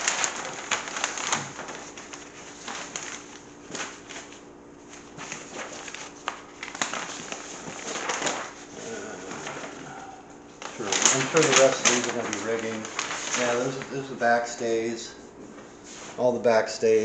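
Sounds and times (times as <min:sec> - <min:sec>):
paper crackling: 0:00.0 - 0:17.0
paper sheets rustling: 0:00.0 - 0:17.0.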